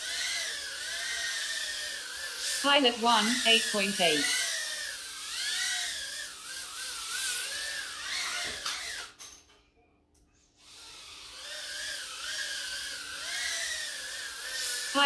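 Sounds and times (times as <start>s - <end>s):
drone motors whining: 0.0s - 9.2s, 10.6s - 15.0s.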